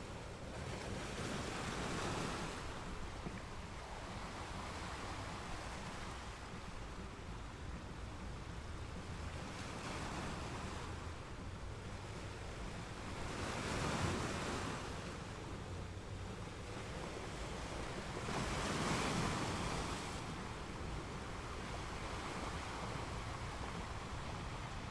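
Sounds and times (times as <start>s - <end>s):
small waves washing onto beach: 0.0s - 24.9s
wind rumble on microphone: 0.0s - 24.9s.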